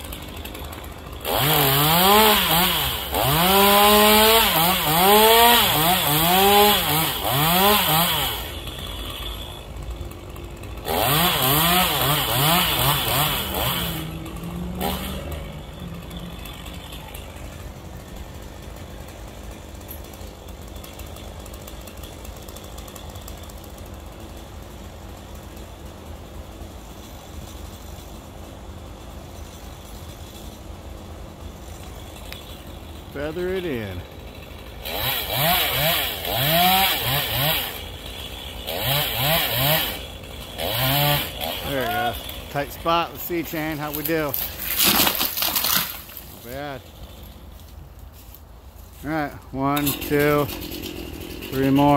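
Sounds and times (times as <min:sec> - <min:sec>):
chainsaw revving and cutting: 0:00.0 - 0:25.1, 0:32.0 - 0:47.7, 0:49.0 - 0:51.9.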